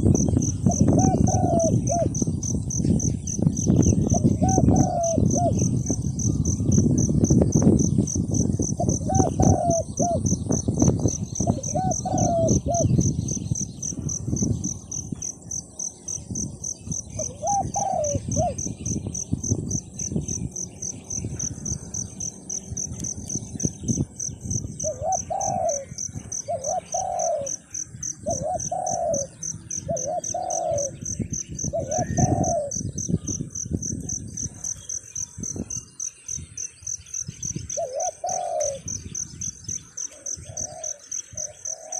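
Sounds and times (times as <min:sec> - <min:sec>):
dove cooing: 0:00.0 - 0:07.7, 0:08.6 - 0:35.1, 0:37.6 - 0:41.9
pulsing insect trill: 0:00.0 - 0:41.9.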